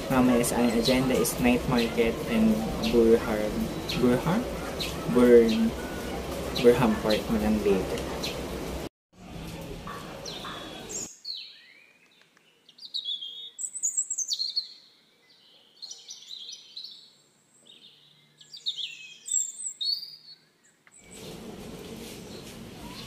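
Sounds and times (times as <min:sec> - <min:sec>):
bird chirping: 0:00.0 - 0:08.5, 0:09.5 - 0:21.4.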